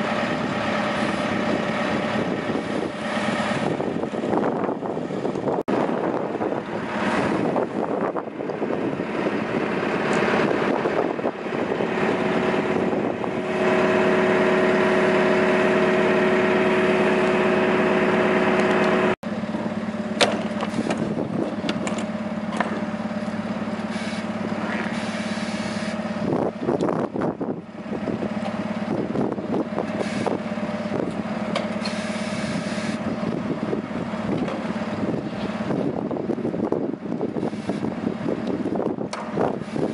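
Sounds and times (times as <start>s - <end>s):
truck engine humming: 0.0s - 39.9s.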